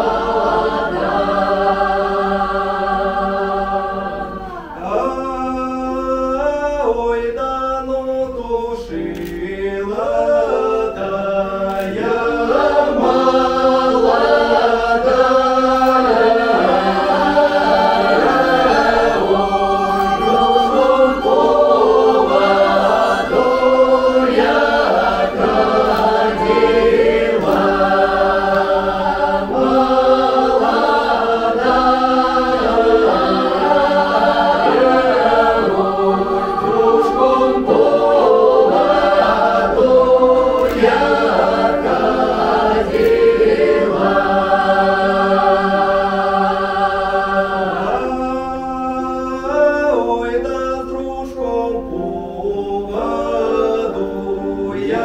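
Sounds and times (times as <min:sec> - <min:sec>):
mixed choir singing folk song: 0:00.0 - 0:55.0.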